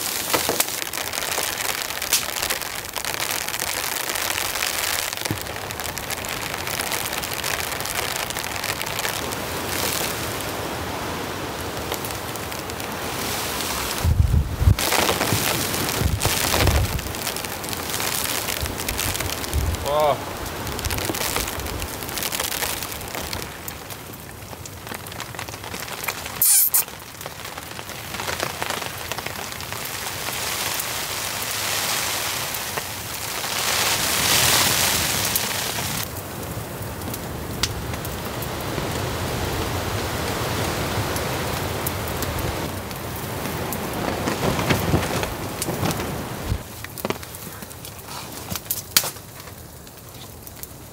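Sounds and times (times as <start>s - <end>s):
gusting wind: 0.0s - 24.8s, 30.0s - 47.1s
steady rain: 0.0s - 50.9s.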